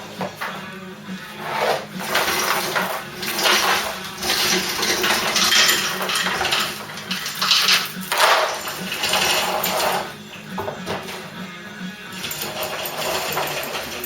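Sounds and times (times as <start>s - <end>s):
metallic clattering and rattling: 1.4s - 14.0s.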